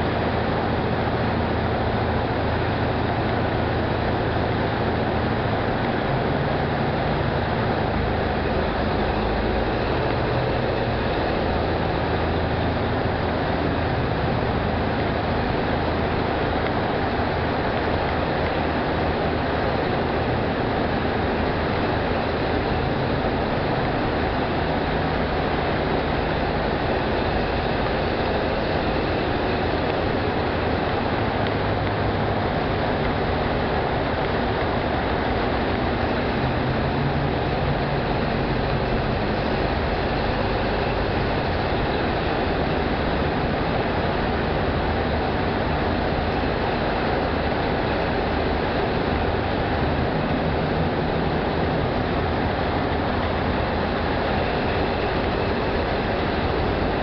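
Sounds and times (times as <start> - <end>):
old car engine running: 0.0 - 57.0
surrounding traffic: 0.0 - 57.0
tyres and wind rumble: 0.0 - 57.0.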